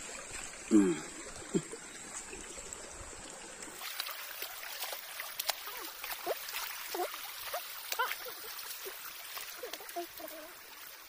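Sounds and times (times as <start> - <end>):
stream trickling and gurgling: 0.0 - 11.0.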